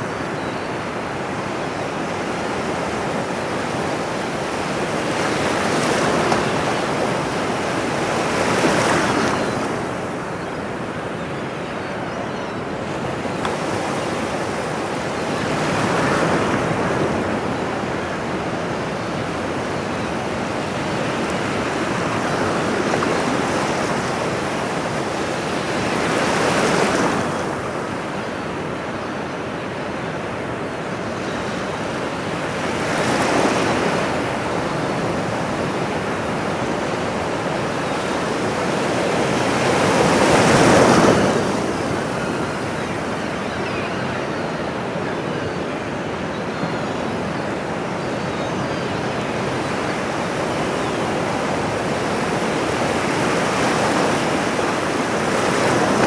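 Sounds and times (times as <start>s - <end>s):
ocean waves washing on shore: 0.0s - 11.8s, 12.6s - 56.0s.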